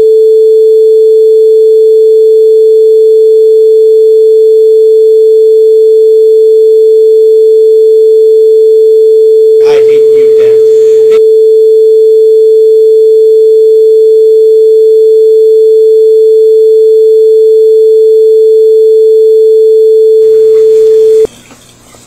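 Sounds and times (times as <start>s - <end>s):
censor bleep tone: 0.0s - 21.3s.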